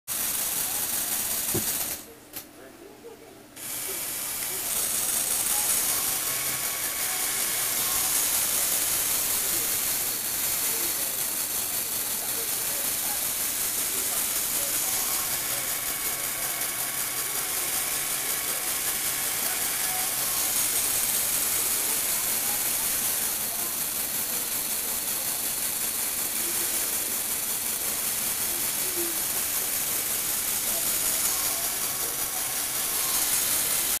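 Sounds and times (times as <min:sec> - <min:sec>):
plastic gears whirring: 0:00.1 - 0:02.1, 0:03.6 - 0:34.0.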